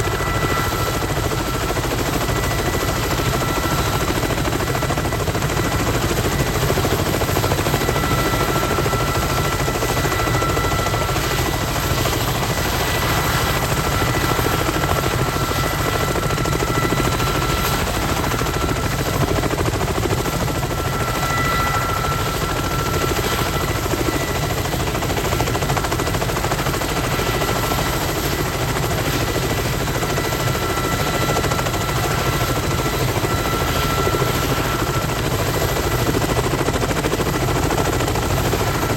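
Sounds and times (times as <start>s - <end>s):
helicopter rotor chop: 0.0s - 38.9s
turbine whine: 0.0s - 38.9s.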